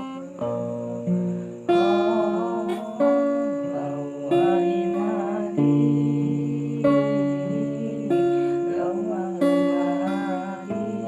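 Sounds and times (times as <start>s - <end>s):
acoustic guitar strumming: 0.0s - 11.0s
voices singing: 0.0s - 11.0s.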